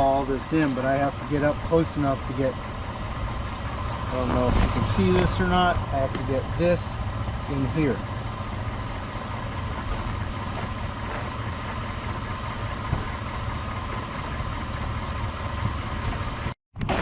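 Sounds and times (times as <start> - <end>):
pickup engine idling: 0.0 - 16.5.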